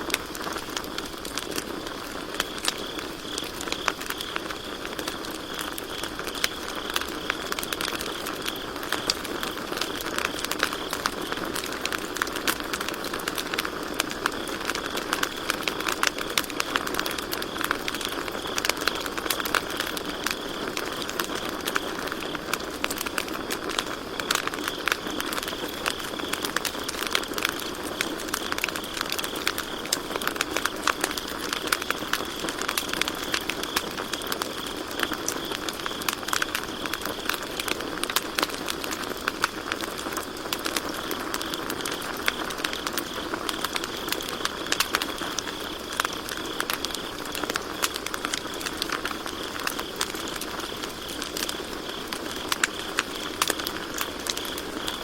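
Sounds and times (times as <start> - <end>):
campfire crackling and popping: 0.0 - 55.0
crickets chirping: 0.0 - 55.0
hiss of burning wood: 0.0 - 55.0.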